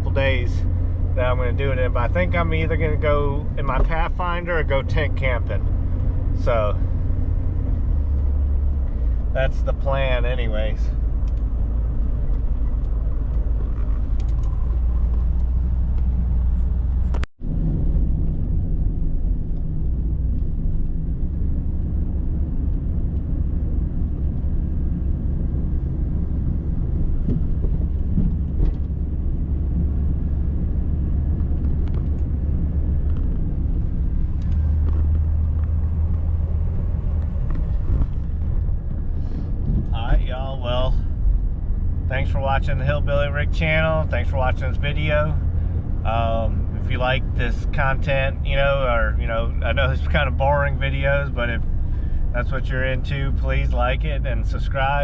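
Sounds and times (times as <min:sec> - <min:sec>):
road noise inside vehicle: 0:00.0 - 0:55.0
van engine rumble: 0:00.0 - 0:55.0.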